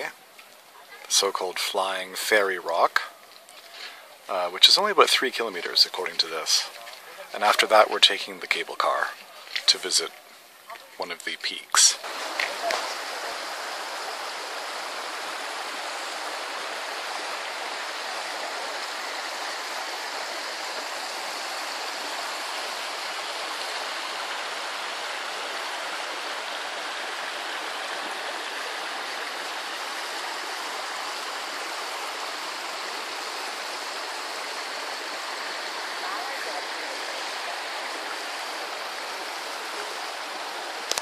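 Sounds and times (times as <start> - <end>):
stream rushing over rocks: 0.0 - 41.0.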